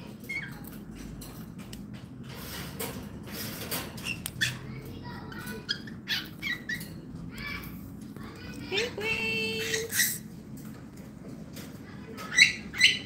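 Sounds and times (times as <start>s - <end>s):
birds scratching and rustling: 0.0s - 13.0s.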